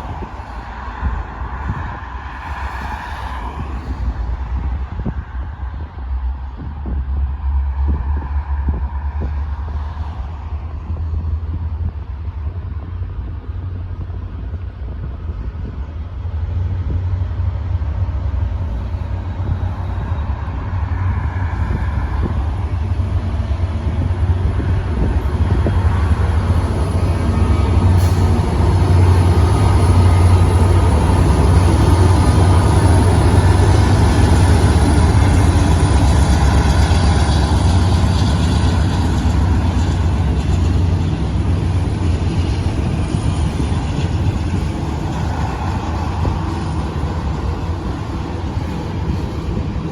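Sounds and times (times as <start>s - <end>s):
freight train rumbling past: 0.0s - 49.9s
wheel and rail noise: 0.0s - 49.9s.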